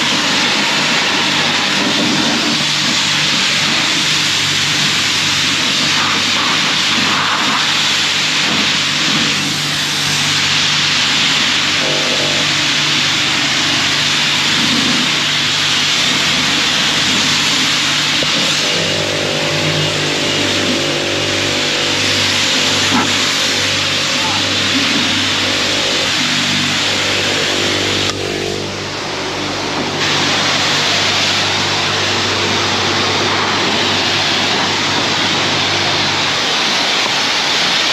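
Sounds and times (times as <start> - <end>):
low motor hum: 0.0 - 37.9
pressure washer spraying water: 0.0 - 37.9.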